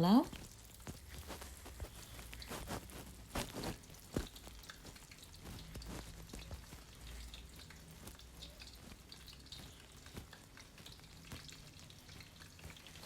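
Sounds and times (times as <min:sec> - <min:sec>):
fritters sizzling in hot oil: 0:00.0 - 0:13.0
small crackles: 0:00.0 - 0:13.0.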